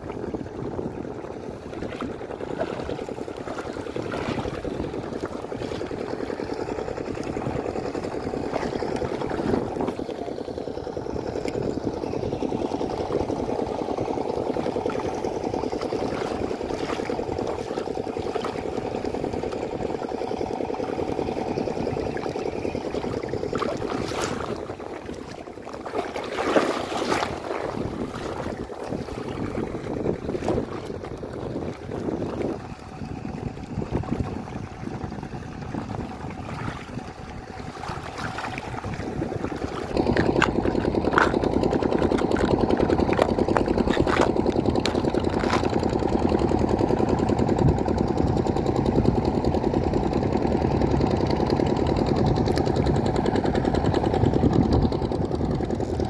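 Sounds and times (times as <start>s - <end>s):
water lapping at shore: 0.0s - 56.0s
wind: 0.0s - 56.0s.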